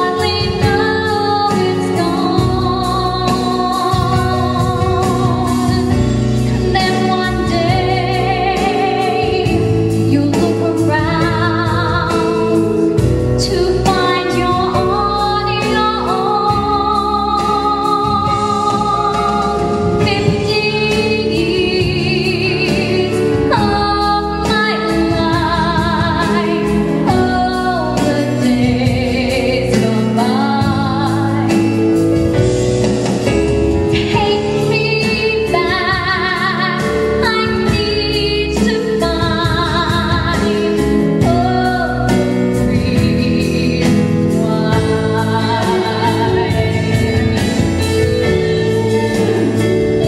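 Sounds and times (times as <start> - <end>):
woman singing with vibrato: 0.0 - 32.5, 33.8 - 50.0
instrumental accompaniment: 0.0 - 50.0.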